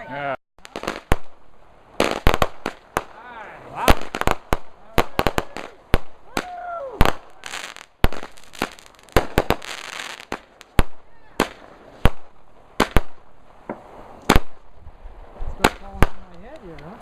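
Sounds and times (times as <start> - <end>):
fireworks banging: 0.6 - 17.0
fireworks crackling hiss: 0.6 - 17.0.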